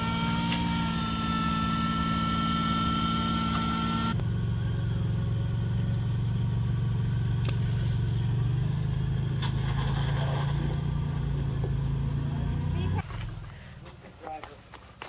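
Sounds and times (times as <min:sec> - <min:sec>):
truck engine running at low revs: 0:00.0 - 0:14.2.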